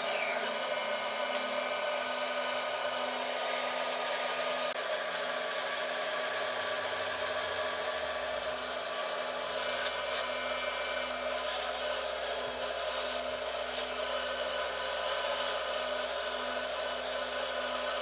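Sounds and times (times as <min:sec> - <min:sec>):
power tool working wood: 0:00.0 - 0:18.0.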